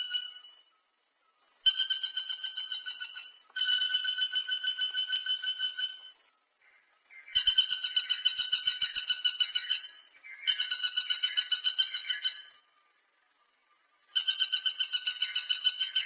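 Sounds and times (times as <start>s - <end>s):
woodpecker rattling call: 0.0s - 0.7s, 1.6s - 12.8s, 14.0s - 16.0s.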